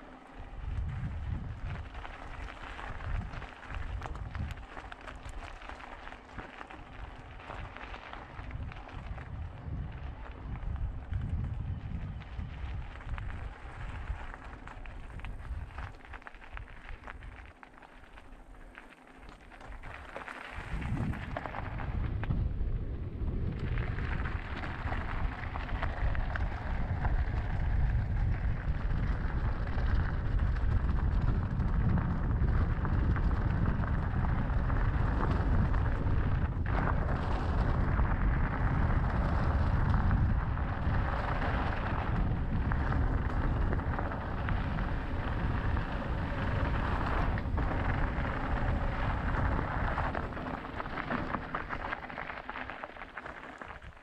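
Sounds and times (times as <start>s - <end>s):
wind buffeting the microphone: 0.0s - 17.4s, 19.8s - 52.0s
tyres crunching over gravel: 0.0s - 22.4s, 23.2s - 54.0s.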